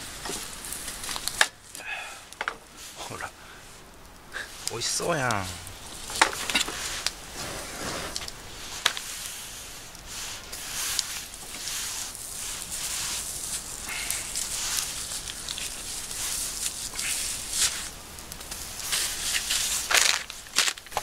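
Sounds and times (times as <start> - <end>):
embers hissing: 0.0 - 21.0
sharp crackles: 0.0 - 21.0.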